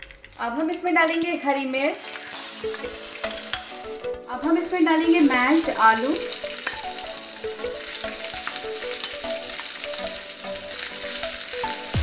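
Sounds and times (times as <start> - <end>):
potatoes sizzling in oil: 0.0 - 12.0
spatula stirring in pan: 2.0 - 12.0.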